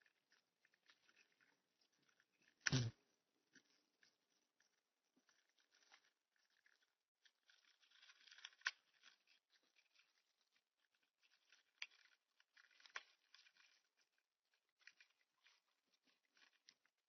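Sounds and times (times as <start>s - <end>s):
insect scratching and crackling: 0.0s - 17.0s.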